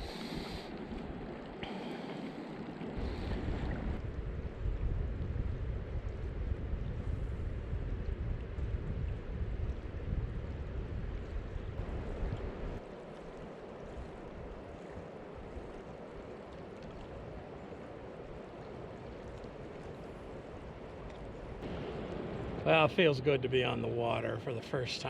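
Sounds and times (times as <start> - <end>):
wind buffeting microphone: 0.0 - 24.4.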